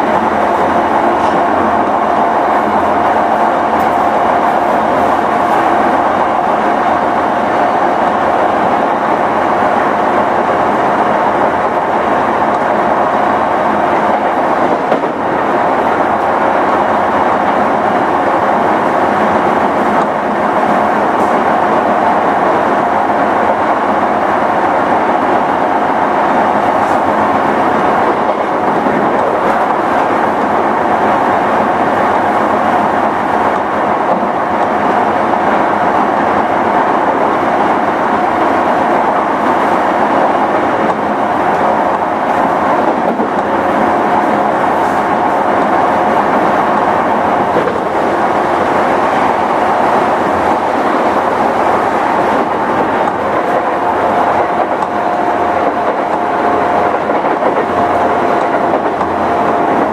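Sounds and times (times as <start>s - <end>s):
electric train rolling with whine: 0.0s - 59.9s.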